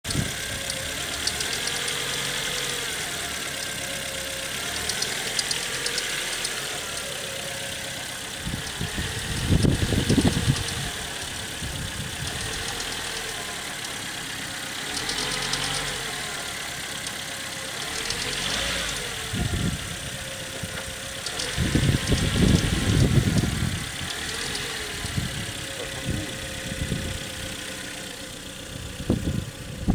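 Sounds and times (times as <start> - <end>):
car engine idling: 0.0 - 29.9
low engine rumbles: 0.0 - 29.9.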